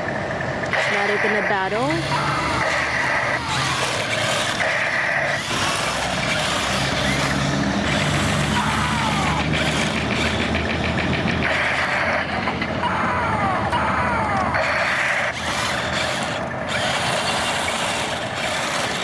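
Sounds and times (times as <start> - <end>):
toy tank motors whirring: 0.0 - 19.0
rapid clicking rattle: 2.0 - 12.8, 14.5 - 19.0.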